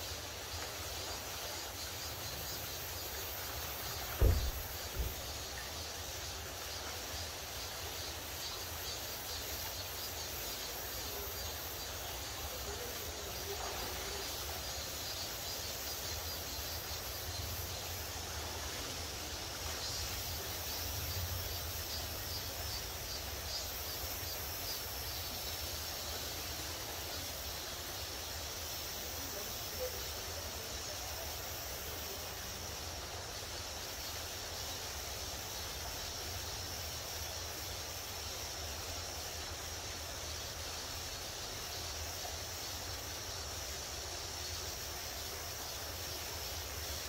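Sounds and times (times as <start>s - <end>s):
stream running over rocks: 0.0s - 47.0s.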